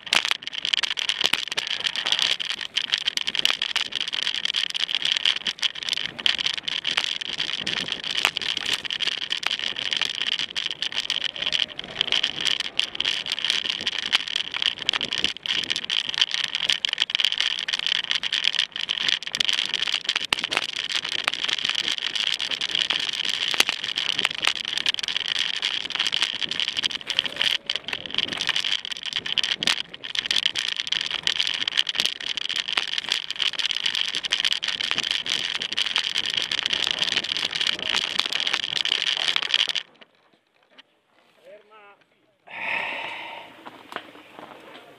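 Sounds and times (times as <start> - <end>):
mountain bike rattling: 0.0 - 41.6, 42.5 - 44.9.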